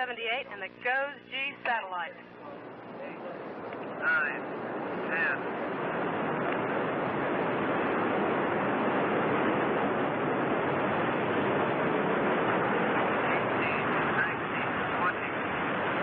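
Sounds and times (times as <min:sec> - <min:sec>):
rocket engine roaring: 0:00.0 - 0:16.0.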